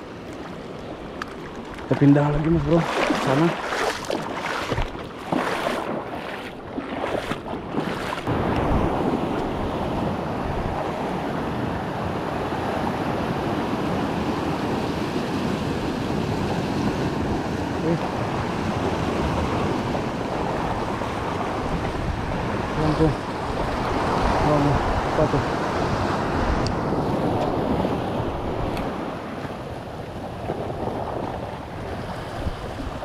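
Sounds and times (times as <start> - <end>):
sea surf rushing: 0.0 - 33.0
wind buffeting microphone: 0.9 - 14.6, 15.2 - 33.0.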